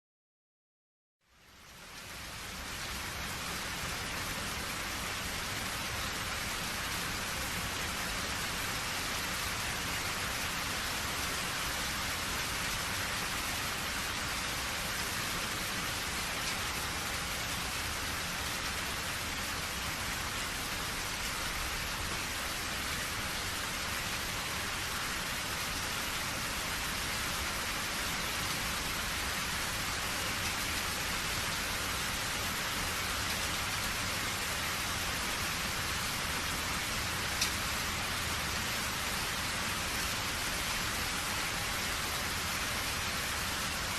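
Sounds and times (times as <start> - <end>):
steady rain falling: 1.2 - 43.9.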